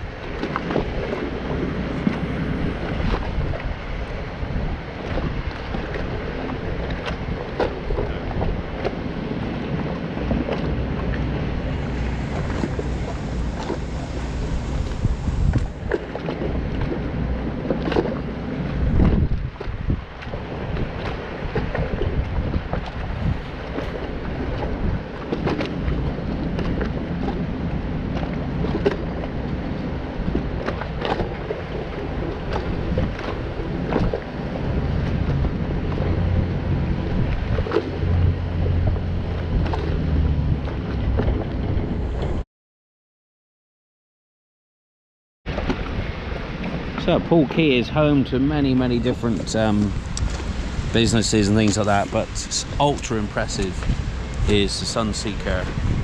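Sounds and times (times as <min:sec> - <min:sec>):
low rumbling noise: 0:00.0 - 0:42.4, 0:45.5 - 0:56.0
wind buffeting microphone: 0:00.0 - 0:42.4, 0:45.5 - 0:56.0.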